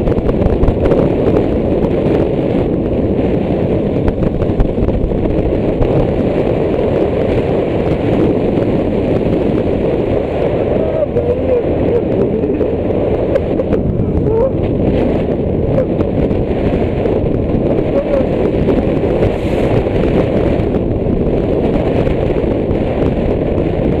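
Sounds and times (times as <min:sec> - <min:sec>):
scooter road and engine noise: 0:00.0 - 0:24.0
wind buffeting microphone: 0:00.0 - 0:24.0.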